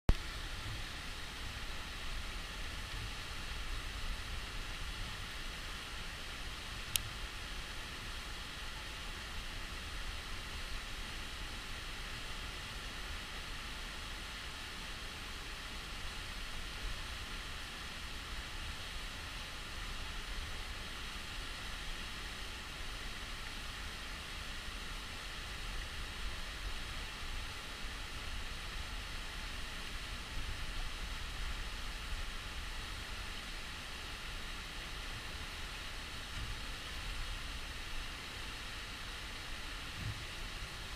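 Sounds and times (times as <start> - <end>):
water rushing over rocks: 0.1 - 40.9.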